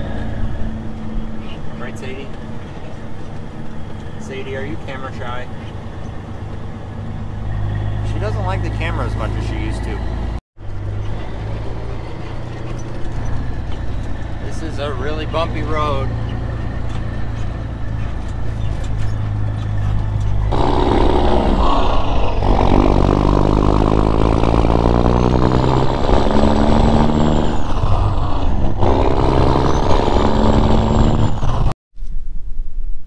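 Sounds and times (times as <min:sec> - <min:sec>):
truck engine revving through gears: 0:00.0 - 0:31.8.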